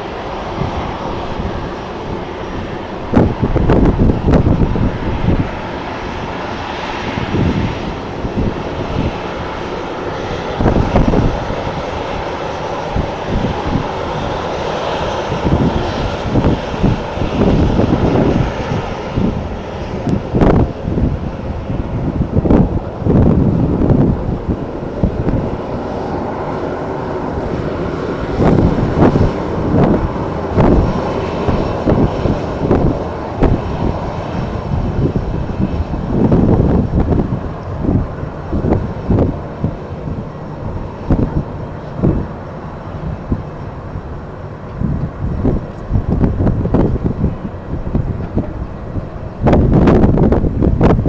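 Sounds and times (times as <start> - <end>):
jet engines running: 0.0 - 51.0
wind buffeting microphone: 0.0 - 51.0.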